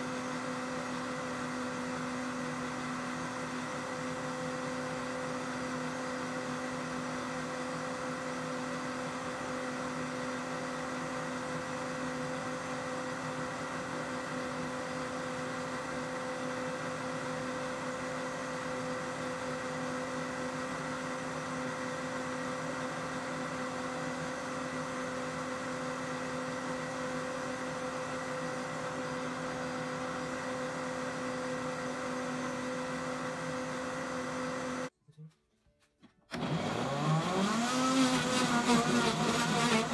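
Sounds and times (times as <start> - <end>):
blender motor whirring: 0.0 - 34.9, 36.3 - 39.9.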